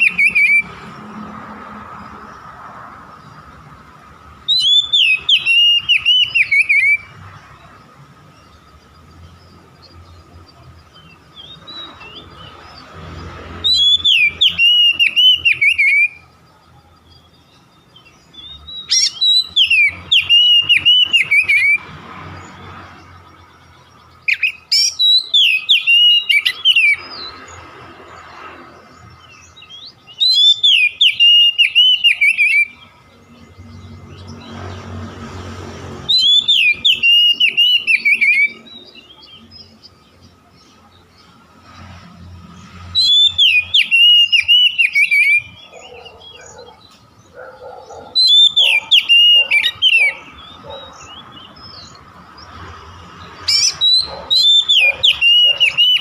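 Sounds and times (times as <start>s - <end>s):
bird whistled song: 0.0s - 1.2s, 4.2s - 23.2s, 23.8s - 35.0s, 36.0s - 41.3s, 42.6s - 52.6s, 53.2s - 56.0s.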